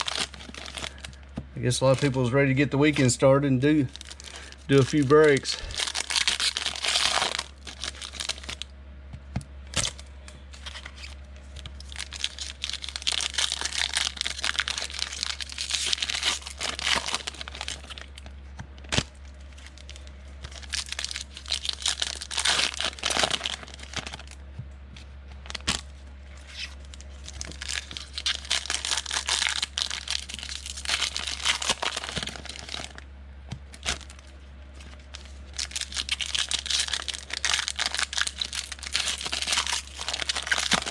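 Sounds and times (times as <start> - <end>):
card wrappers tearing and crinkling: 0.0 - 8.6, 9.7 - 24.4, 25.4 - 33.0, 33.7 - 40.9.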